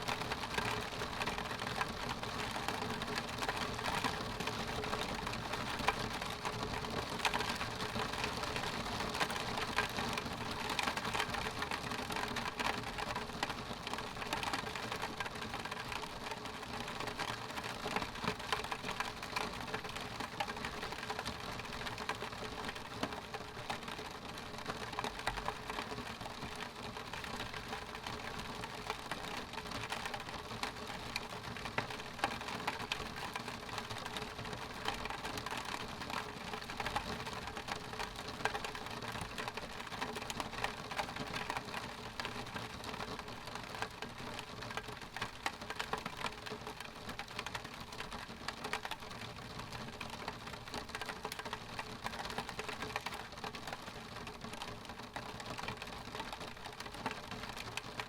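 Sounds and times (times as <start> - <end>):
rain pattering on window glass: 0.0 - 58.0.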